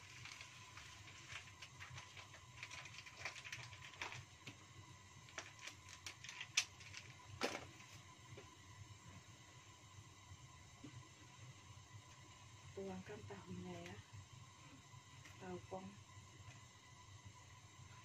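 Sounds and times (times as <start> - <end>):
broth simmering with popping bubbles: 0.0 - 18.0.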